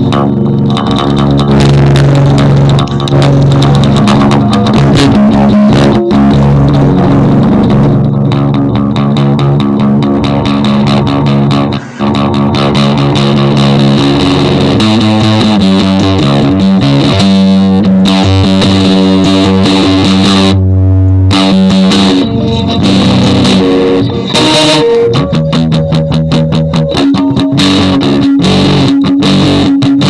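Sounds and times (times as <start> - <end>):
bass: 0.0 - 30.0
distorted electric guitar: 0.0 - 30.0.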